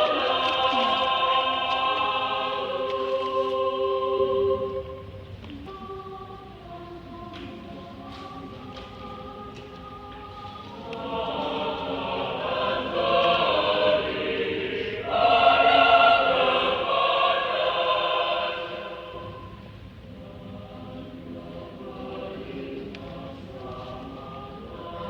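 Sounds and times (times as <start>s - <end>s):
mixed choir singing held chords: 0.0s - 25.0s.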